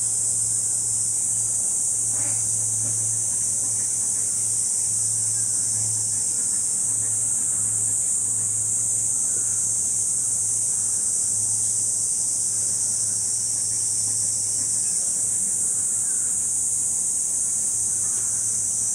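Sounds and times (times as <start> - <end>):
cicadas chorus: 0.0 - 18.9.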